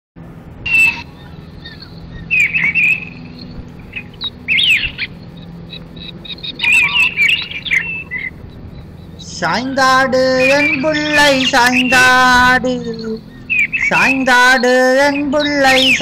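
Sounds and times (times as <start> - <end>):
bird chirping: 0.6 - 16.0.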